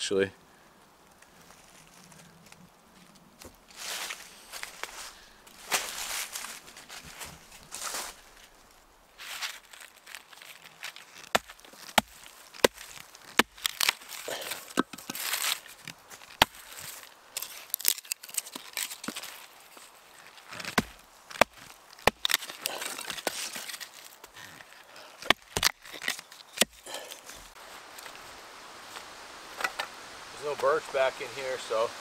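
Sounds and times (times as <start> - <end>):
dry wood cracking and snapping: 1.0 - 28.3
wood scraping and crunching: 1.1 - 31.1.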